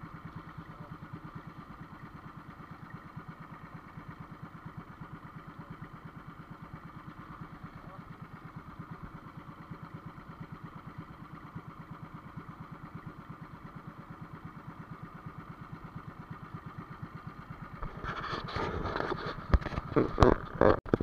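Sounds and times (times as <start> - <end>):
boat engine pulsing: 0.0 - 21.0.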